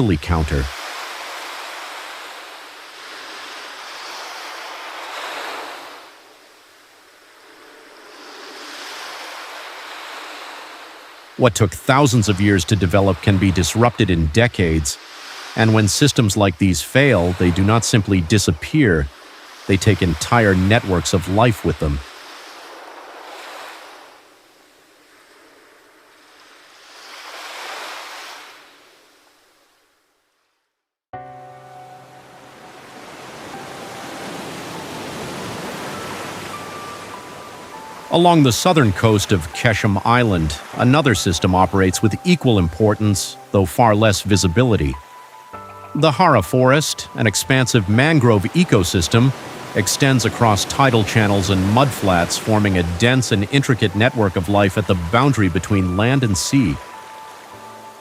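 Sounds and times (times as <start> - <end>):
sea waves washing in: 0.0 - 30.5, 31.2 - 58.0.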